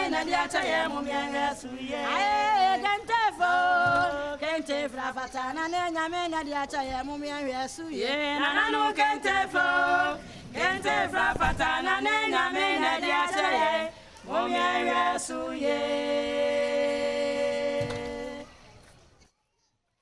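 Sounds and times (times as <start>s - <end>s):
group singing a cappella: 0.0s - 18.5s.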